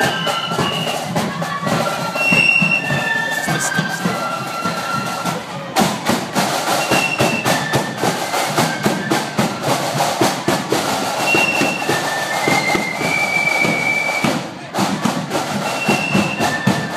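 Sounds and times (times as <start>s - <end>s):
high flute melody: 0.0s - 14.4s, 15.5s - 16.9s
marching drums: 0.0s - 16.9s.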